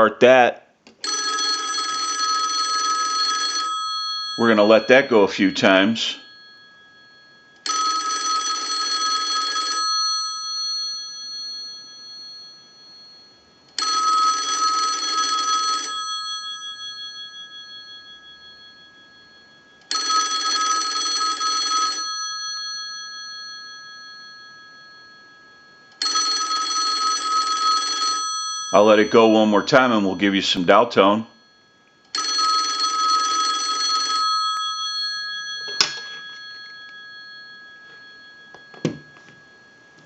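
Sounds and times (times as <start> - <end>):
telephone bell ringing: 1.0 - 40.0.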